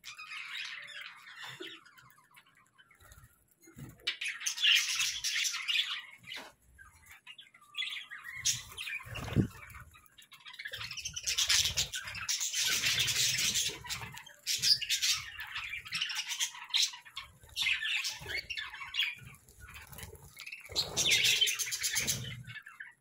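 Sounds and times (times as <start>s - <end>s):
budgerigars chattering and chirping: 4.0s - 23.0s.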